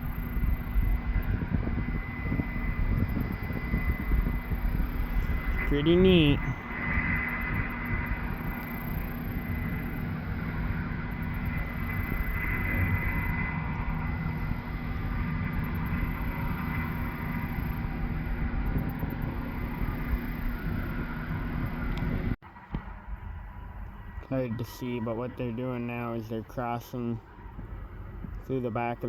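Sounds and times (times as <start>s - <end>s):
combine harvester drone: 0.0s - 29.0s
faint machine whine: 0.0s - 29.0s.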